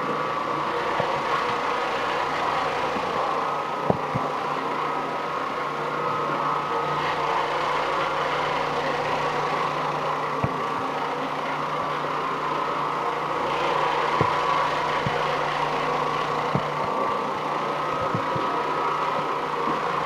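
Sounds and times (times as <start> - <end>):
floor machine brushing carpet: 0.0 - 20.0.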